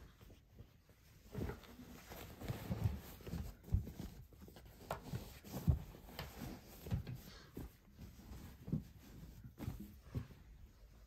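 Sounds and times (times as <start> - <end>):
denim rustling: 0.0 - 11.0.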